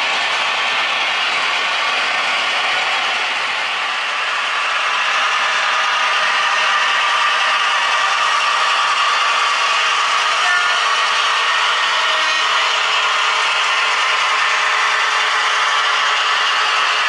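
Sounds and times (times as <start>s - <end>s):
model train rattling on rails: 0.0s - 17.0s.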